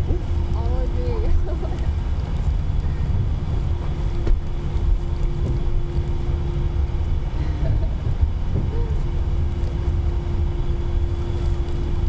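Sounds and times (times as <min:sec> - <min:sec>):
low rumble of jet engines: 0:00.0 - 0:12.0
steady hum: 0:00.0 - 0:12.0.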